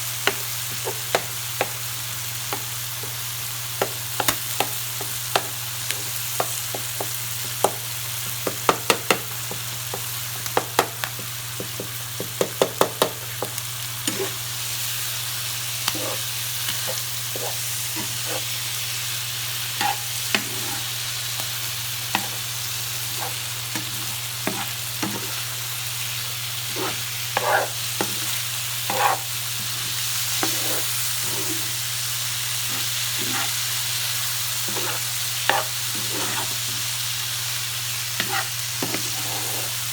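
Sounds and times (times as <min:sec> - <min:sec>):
livers sizzling in a pan: 0:00.0 - 0:39.9.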